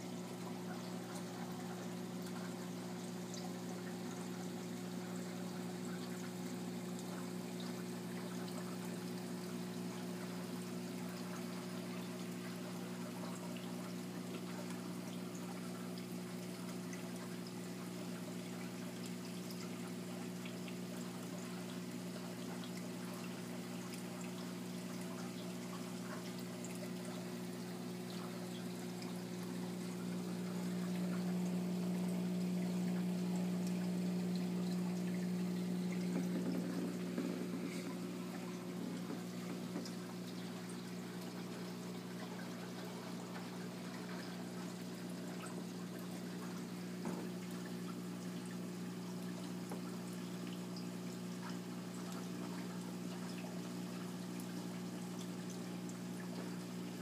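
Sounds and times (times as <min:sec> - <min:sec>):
circulating water: 0:00.0 - 0:57.0
low pump hum: 0:00.0 - 0:57.0.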